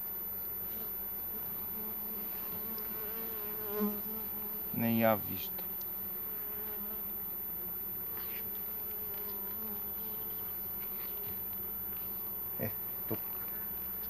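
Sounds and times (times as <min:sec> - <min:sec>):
honeybees buzzing: 0:00.6 - 0:14.0.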